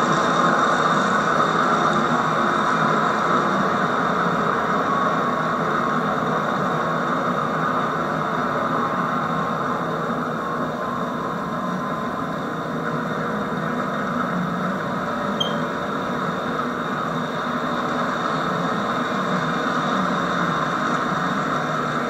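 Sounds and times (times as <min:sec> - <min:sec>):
model train whirring on rails: 0:00.0 - 0:22.0.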